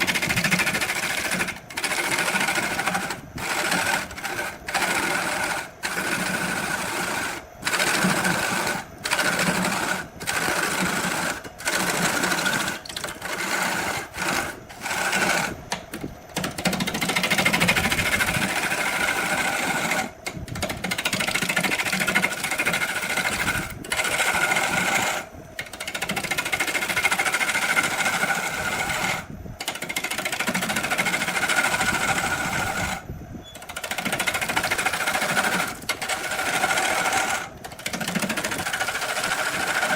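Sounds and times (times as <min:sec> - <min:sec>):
power tool whining on wood: 0:00.0 - 0:39.9.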